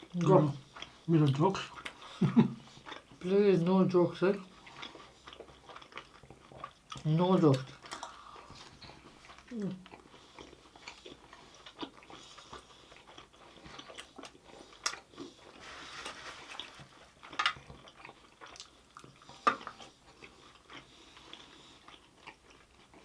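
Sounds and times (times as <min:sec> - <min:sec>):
chewing and biting food: 0:00.0 - 0:03.4, 0:04.4 - 0:23.0.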